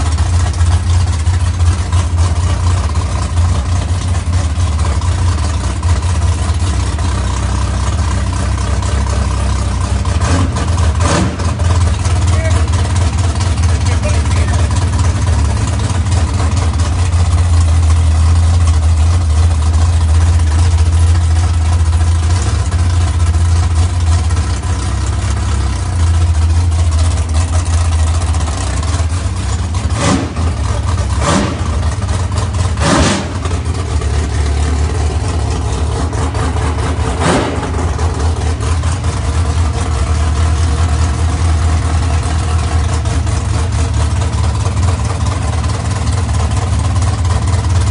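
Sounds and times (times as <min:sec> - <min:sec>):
race car engine idling: 0:00.0 - 0:47.9.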